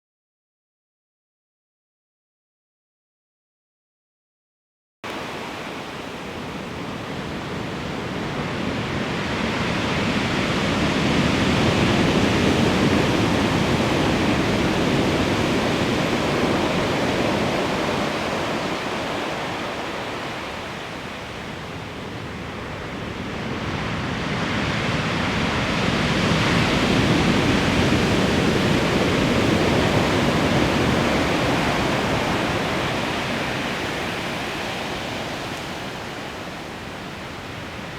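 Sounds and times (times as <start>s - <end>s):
big waves breaking: 5.1s - 37.9s.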